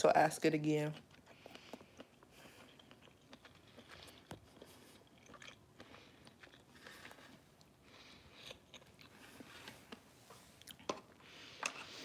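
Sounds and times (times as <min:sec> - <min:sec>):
person chewing: 0:01.0 - 0:12.0.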